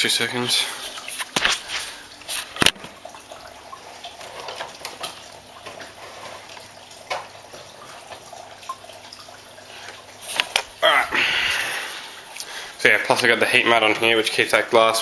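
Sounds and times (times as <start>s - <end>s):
trickle of running water: 0.0s - 15.0s.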